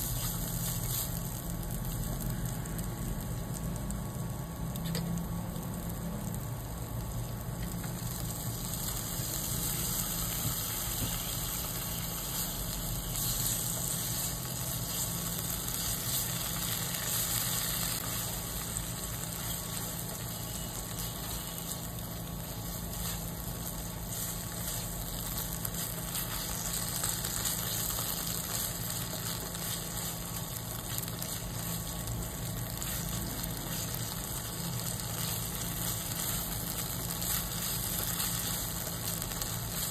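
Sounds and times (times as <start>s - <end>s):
curry paste sizzling in oil: 0.0s - 39.9s
low steady hum: 0.0s - 39.9s.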